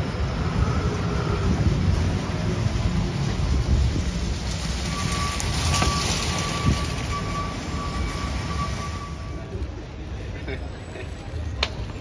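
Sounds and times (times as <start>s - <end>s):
city traffic hiss: 0.0s - 12.0s.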